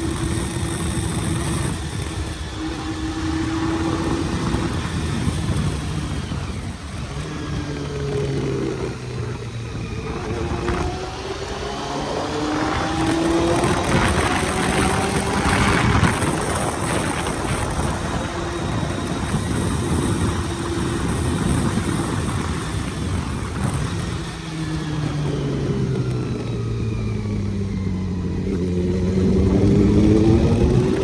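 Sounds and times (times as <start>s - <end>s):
motorcycle engine accelerating: 0.0s - 31.0s
wind noise on microphone: 0.0s - 31.0s.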